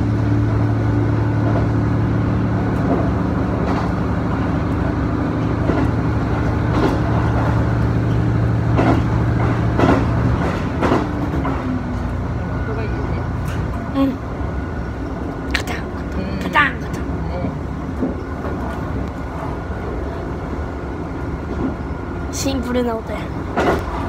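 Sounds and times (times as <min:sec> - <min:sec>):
railcar engine hum: 0:00.0 - 0:24.0.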